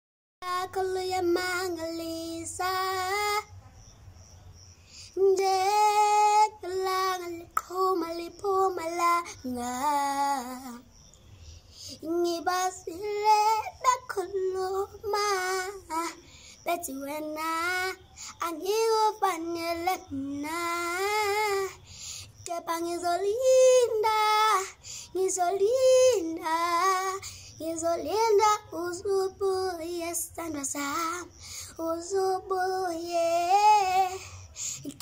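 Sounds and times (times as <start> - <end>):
boy singing unaccompanied: 0.4 - 3.6, 4.9 - 10.9, 11.8 - 35.0.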